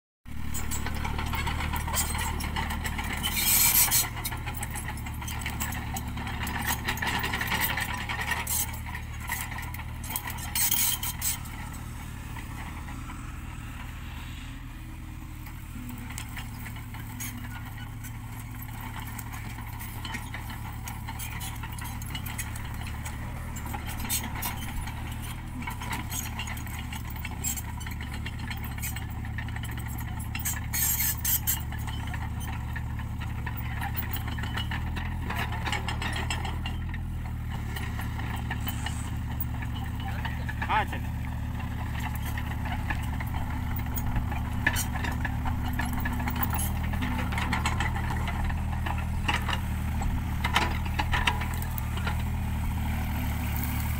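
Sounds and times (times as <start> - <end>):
excavator diesel engine running: 0.3 - 53.9
tracks and blade rattling scraping: 0.3 - 53.9.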